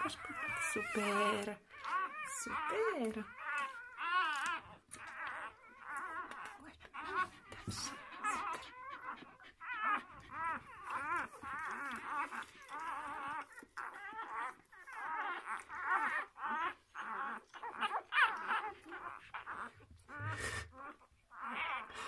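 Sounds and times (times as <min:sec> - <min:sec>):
puppies whimpering and squealing: 0:00.0 - 0:22.0.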